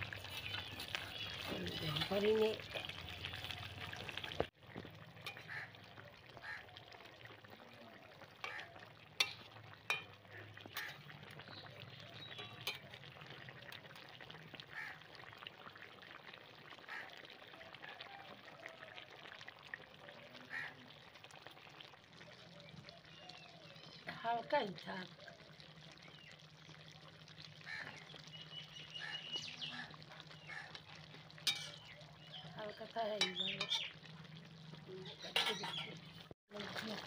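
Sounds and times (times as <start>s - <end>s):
curry bubbling in a pan: 0.0s - 37.0s.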